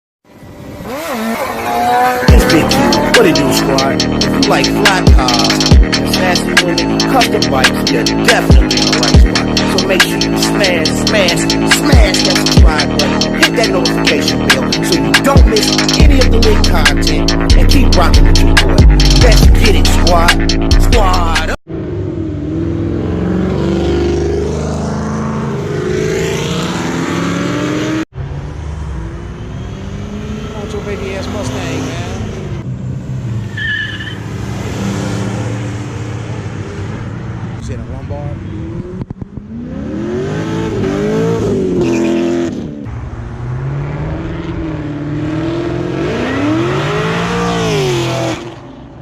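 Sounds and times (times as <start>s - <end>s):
car engines revving: 0.3s - 49.0s.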